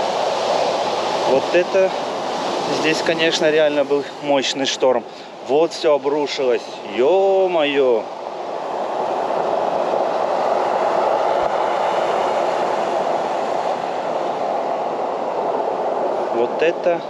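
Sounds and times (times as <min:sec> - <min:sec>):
storm surf roaring: 0:00.0 - 0:17.0.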